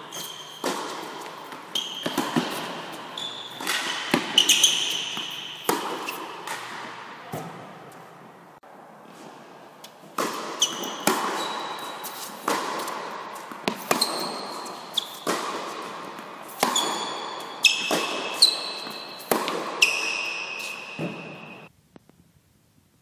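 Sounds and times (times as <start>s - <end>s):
tennis ball bouncing on court: 0.1s - 8.1s, 9.8s - 21.7s
tennis ball hit by rackets: 0.2s - 8.0s, 10.0s - 21.7s.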